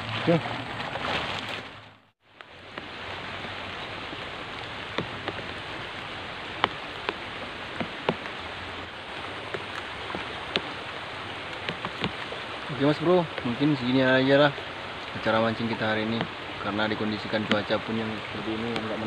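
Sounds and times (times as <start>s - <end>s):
river water rushing: 0.0s - 19.0s
sharp drips: 2.4s - 19.0s.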